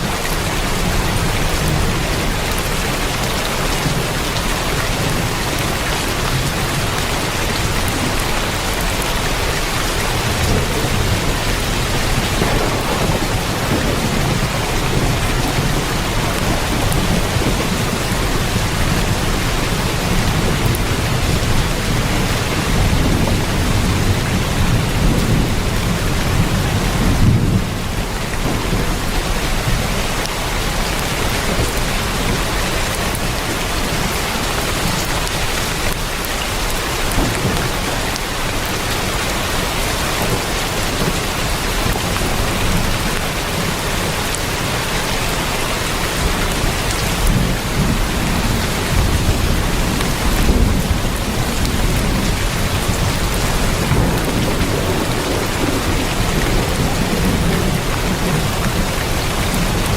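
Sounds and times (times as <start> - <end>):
heavy rain on a tin roof: 0.0 - 59.9
thunder rumble: 0.0 - 59.9.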